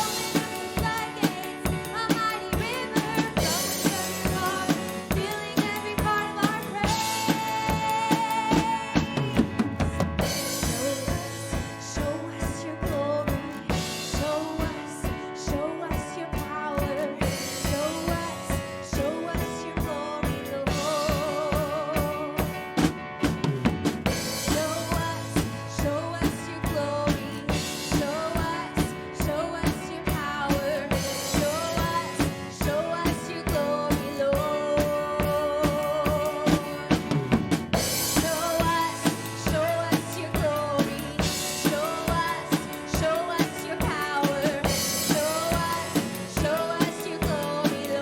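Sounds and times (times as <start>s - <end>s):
drum kit beat: 0.0s - 48.0s
live band music: 0.0s - 48.0s.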